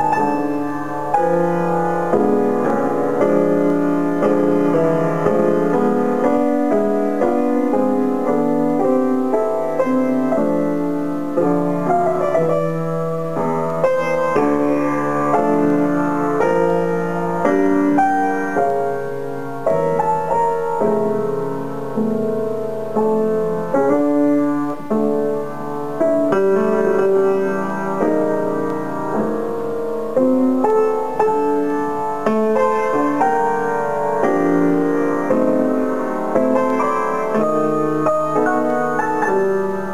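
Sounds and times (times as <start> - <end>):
grand piano playing: 0.0 - 39.9.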